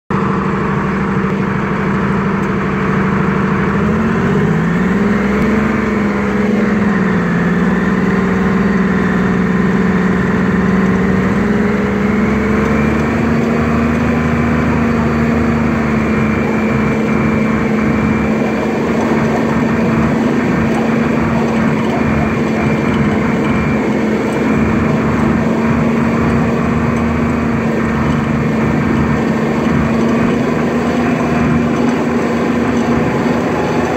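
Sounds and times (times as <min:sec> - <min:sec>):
tracked vehicle engine running: 0:00.1 - 0:33.9.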